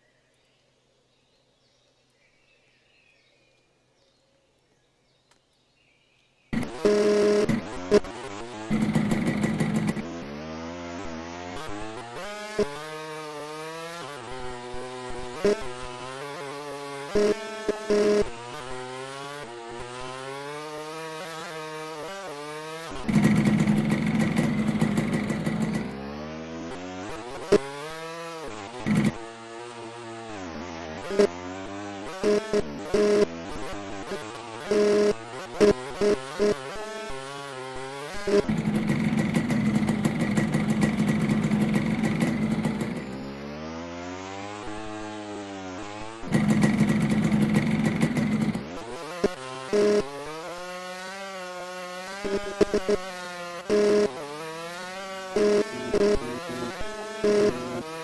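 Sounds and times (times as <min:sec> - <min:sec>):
dirt bike engines revving: 0:06.6 - 0:58.0.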